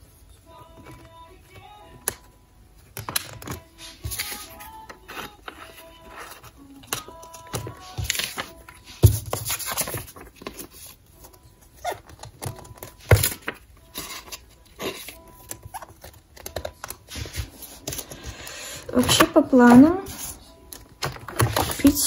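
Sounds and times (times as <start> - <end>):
plastic sleeves crinkling: 2.8 - 22.0.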